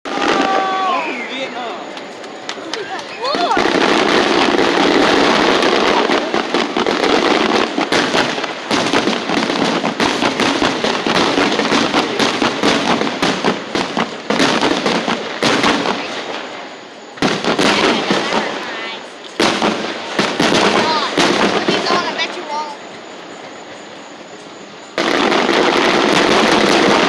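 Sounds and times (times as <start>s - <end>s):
fireworks crackling: 0.0s - 27.0s
loud firework bangs: 0.0s - 27.0s.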